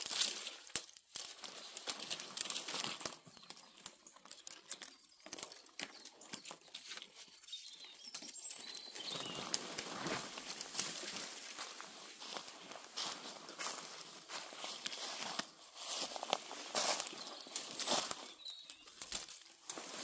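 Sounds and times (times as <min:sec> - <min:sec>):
footsteps crunching on forest floor: 0:00.0 - 0:04.0, 0:06.6 - 0:20.0.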